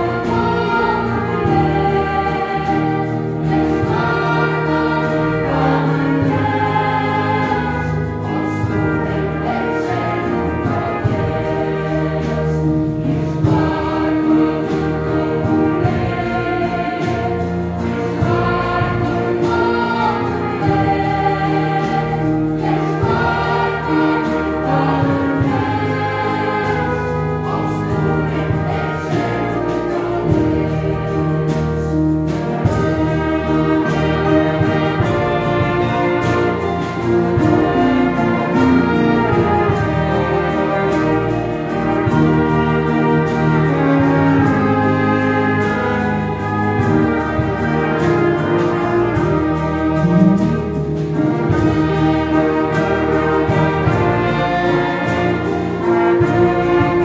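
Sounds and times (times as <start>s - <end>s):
brass instruments: 0.0s - 57.0s
choir singing a hymn: 0.0s - 57.0s
clarinet: 0.0s - 57.0s
violins: 0.0s - 57.0s.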